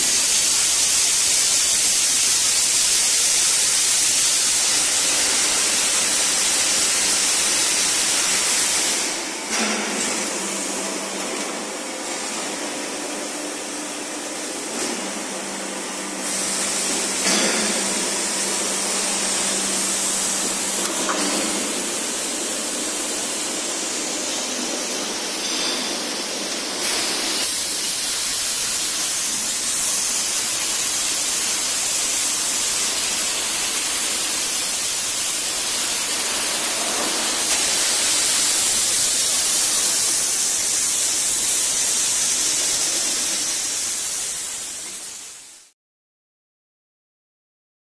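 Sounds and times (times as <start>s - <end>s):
spray hissing: 0.0s - 9.6s, 16.2s - 45.7s.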